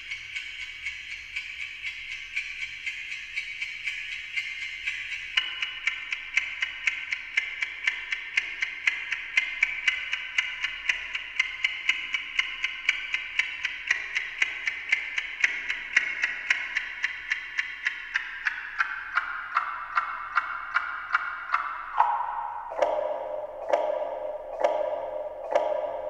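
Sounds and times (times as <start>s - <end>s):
clock ticking with delay echoes: 0.0s - 26.0s.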